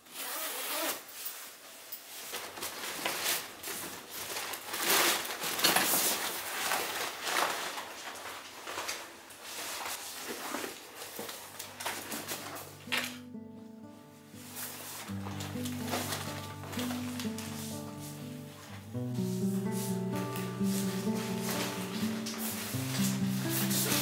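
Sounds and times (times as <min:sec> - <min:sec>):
fabric rustling: 0:00.1 - 0:24.0.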